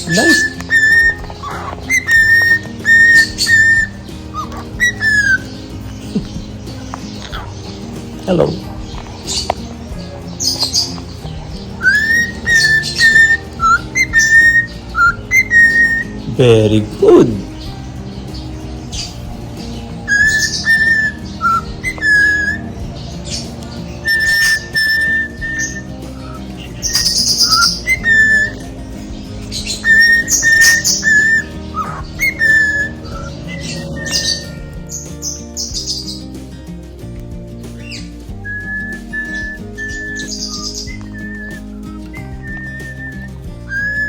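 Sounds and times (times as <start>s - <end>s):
cockatiel whistling: 0.0s - 36.3s, 37.8s - 44.0s
scratchy bird chirps: 0.0s - 36.5s, 37.5s - 44.0s.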